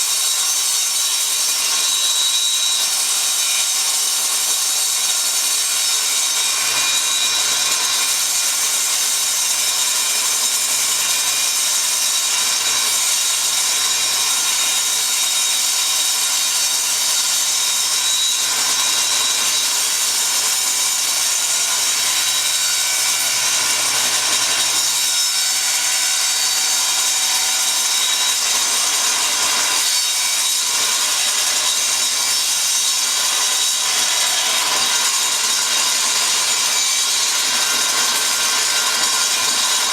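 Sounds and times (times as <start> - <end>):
table saw cutting board: 0.0 - 39.9.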